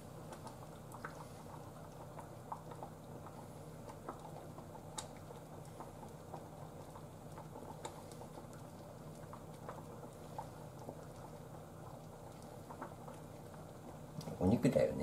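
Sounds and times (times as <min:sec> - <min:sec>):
stew bubbles popping: 0:00.0 - 0:14.8.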